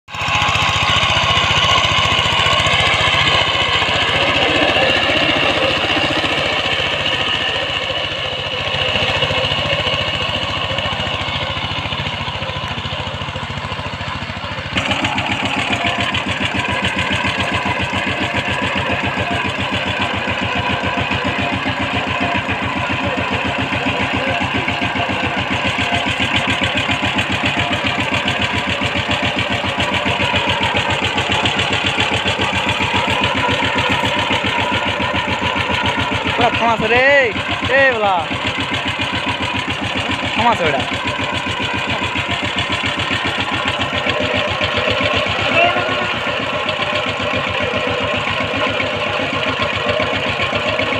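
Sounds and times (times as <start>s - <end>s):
tiller engine running: 0.1s - 50.9s.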